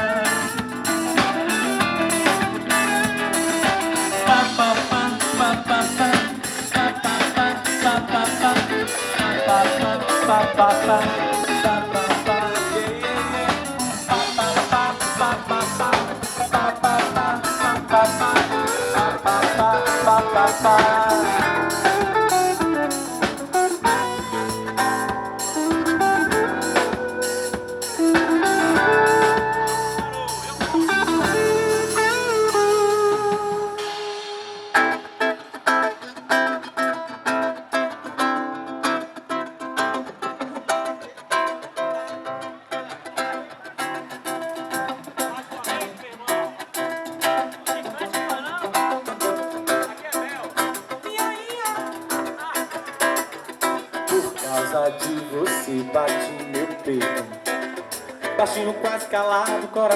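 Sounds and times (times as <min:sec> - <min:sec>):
instrumental band music: 0:00.0 - 0:38.2, 0:43.8 - 0:59.9
guitar melodic lines: 0:00.0 - 0:59.9.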